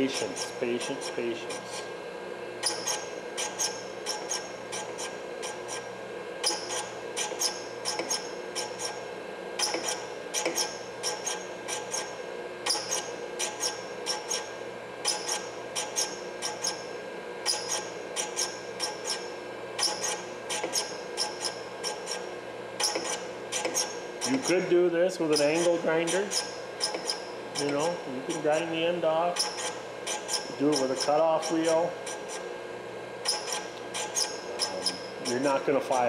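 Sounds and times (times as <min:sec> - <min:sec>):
grinding machine humming: 0:00.0 - 0:36.0.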